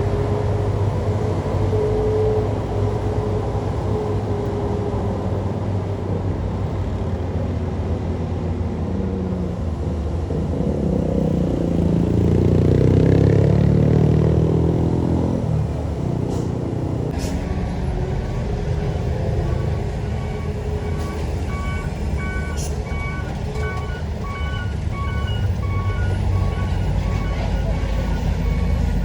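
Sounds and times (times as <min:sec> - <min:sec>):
heavy vehicle engine rumbling: 0:00.0 - 0:29.0
traffic rumble: 0:00.0 - 0:29.0.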